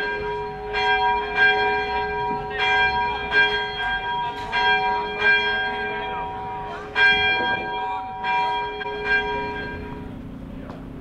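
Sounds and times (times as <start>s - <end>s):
church bell ringing: 0.0s - 10.5s.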